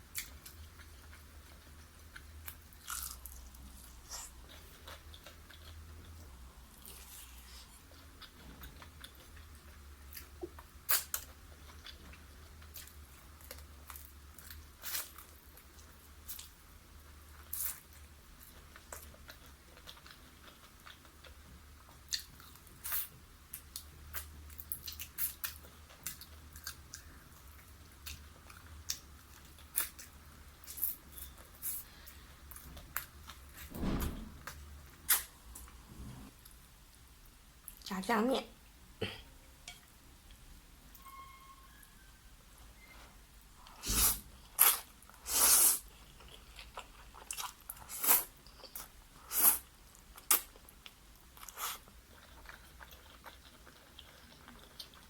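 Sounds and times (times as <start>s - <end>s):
crunchy chewing of fried chicken: 0.0s - 33.6s, 43.7s - 55.0s.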